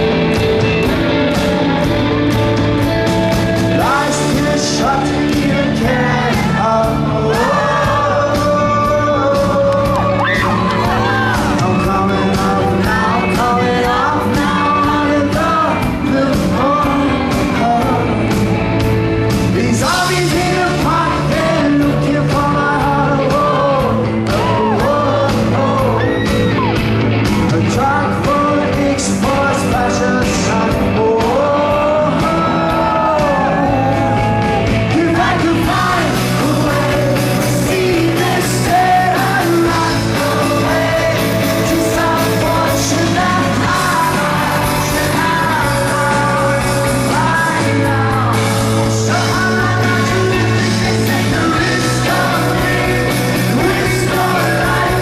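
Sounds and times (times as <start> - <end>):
bass line: 0.0 - 55.0
rock band playing live: 0.0 - 55.0
singer's voice: 0.0 - 55.0.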